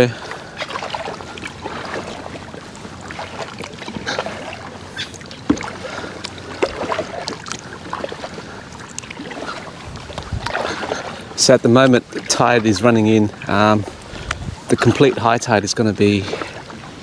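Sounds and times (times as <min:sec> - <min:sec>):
small splashes and drips: 0:00.0 - 0:15.2
paddle dipping into water: 0:00.0 - 0:17.0.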